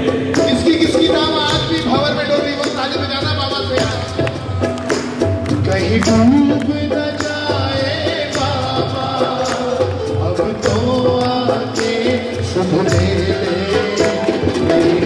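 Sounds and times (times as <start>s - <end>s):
hand drum beats: 0.0s - 15.0s
person singing: 0.0s - 15.0s.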